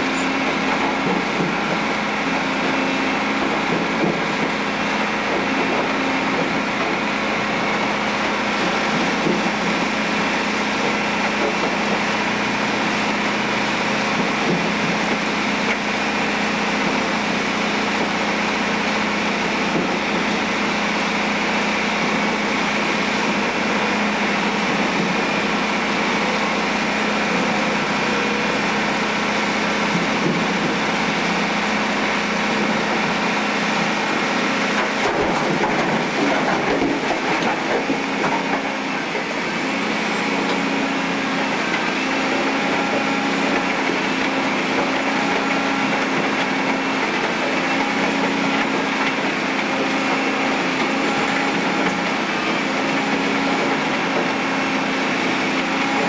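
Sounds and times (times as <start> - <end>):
shredder grinding asphalt: 0.0 - 56.0.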